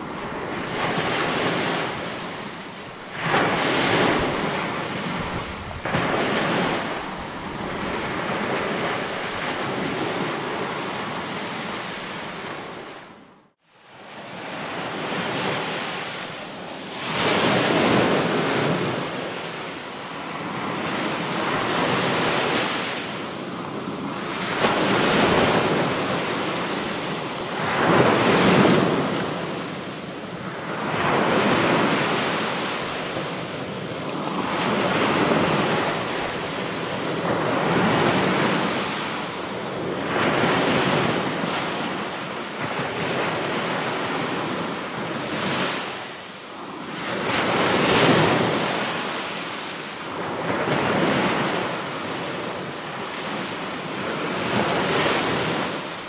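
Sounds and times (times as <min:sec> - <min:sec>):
ocean surf breaking: 0:00.0 - 0:13.1, 0:14.3 - 0:56.0.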